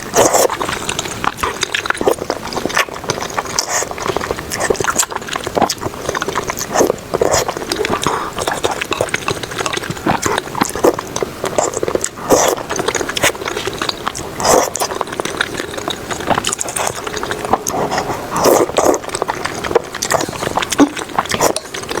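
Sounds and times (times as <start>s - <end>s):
person chewing noodles: 0.0s - 22.0s.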